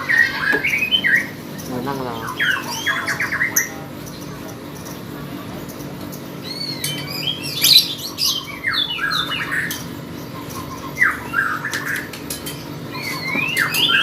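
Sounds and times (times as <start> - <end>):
lovebird chirping: 0.0 - 12.1.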